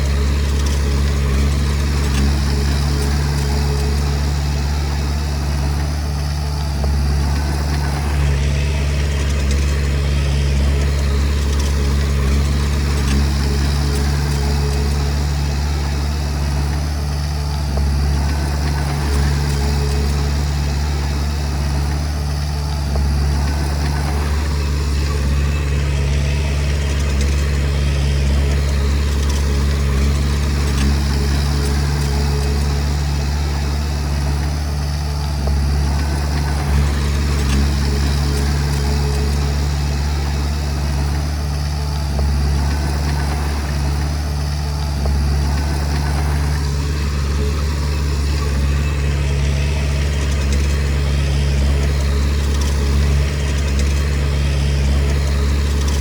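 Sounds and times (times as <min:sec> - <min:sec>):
bulldozer diesel engine humming: 0:00.0 - 0:56.0.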